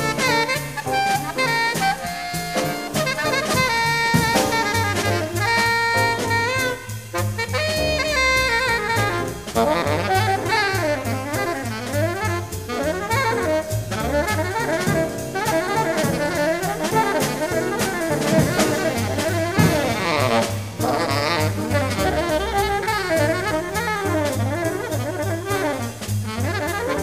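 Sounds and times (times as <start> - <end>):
drum kit: 0.0 - 27.0
tenor saxophone soloing: 0.0 - 27.0
walking double bass: 0.0 - 27.0.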